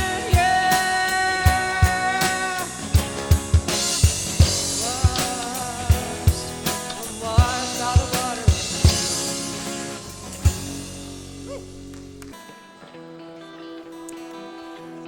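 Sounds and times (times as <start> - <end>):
drum kit beats: 0.0 - 12.4.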